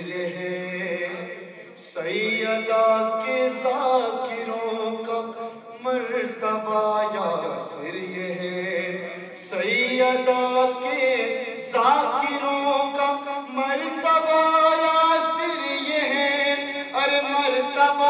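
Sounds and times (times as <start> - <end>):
man singing into a microphone: 0.0 - 18.0.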